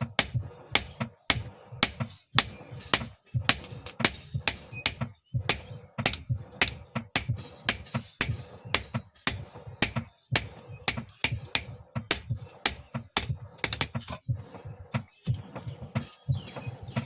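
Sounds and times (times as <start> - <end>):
hammer striking steel on anvil: 0.1 - 14.2.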